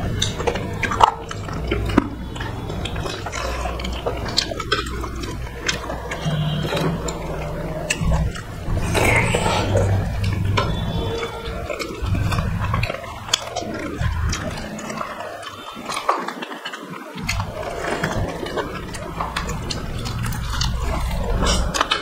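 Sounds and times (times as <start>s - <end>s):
chewing and lip smacks: 0.0s - 22.0s.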